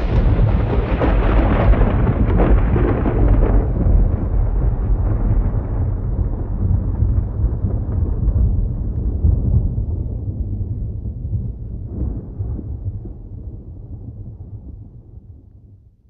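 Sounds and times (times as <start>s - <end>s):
thunder crack and rumble: 0.0s - 15.9s.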